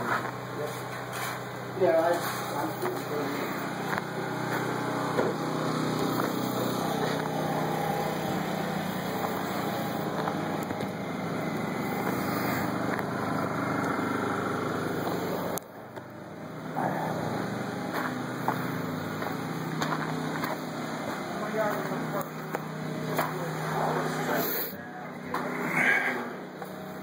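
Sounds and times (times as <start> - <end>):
small engine running steadily: 0.0 - 27.0.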